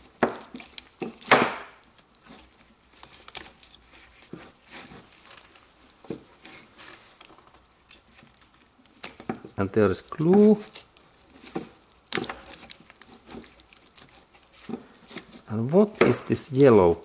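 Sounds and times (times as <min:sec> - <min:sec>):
insulating tape crackling and tearing: 0:00.0 - 0:17.0.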